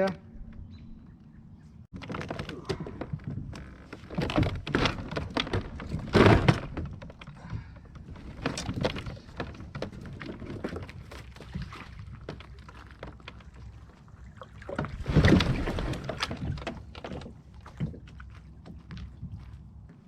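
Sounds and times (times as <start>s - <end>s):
gear clattering on plastic hull: 1.9s - 19.8s.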